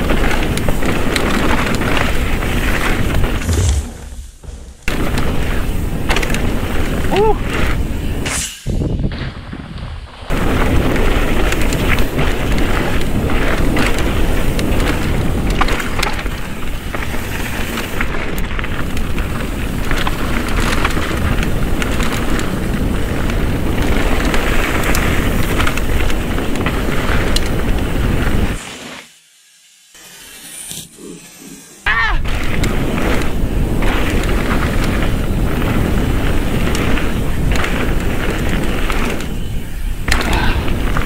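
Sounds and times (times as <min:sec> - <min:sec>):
bike knocks and rattles: 0:00.0 - 0:08.2, 0:09.0 - 0:28.5, 0:32.3 - 0:41.0
tyres rumbling on dirt: 0:00.0 - 0:08.2, 0:09.0 - 0:28.6, 0:32.2 - 0:41.0
wind rushing over microphone: 0:00.0 - 0:28.6, 0:32.1 - 0:41.0.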